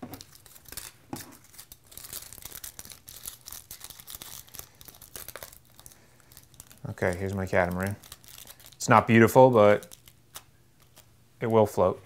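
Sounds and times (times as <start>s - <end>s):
aluminium foil crinkling: 0.0s - 11.2s.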